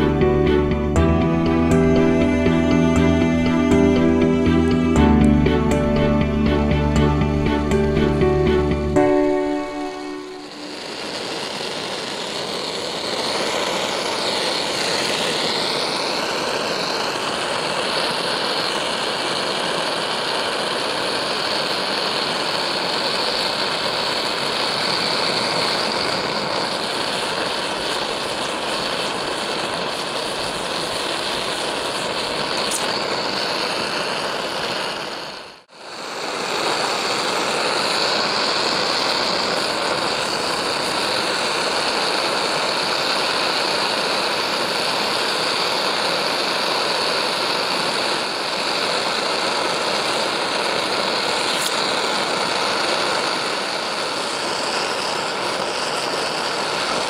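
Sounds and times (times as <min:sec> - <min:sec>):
gas torch flame hissing: 0:09.5 - 0:57.0.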